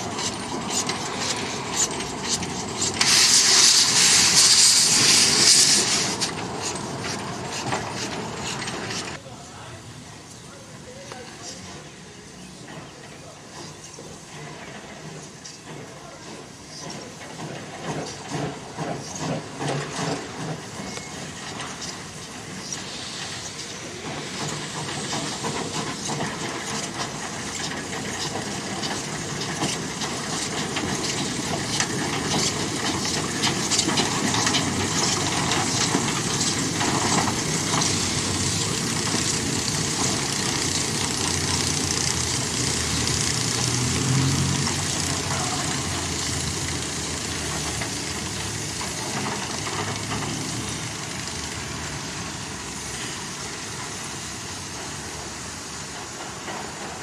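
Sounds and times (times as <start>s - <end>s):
steam locomotive exhaust beats: 0.0s - 9.2s, 13.4s - 57.0s
hiss of steam: 0.0s - 9.3s, 9.9s - 57.0s.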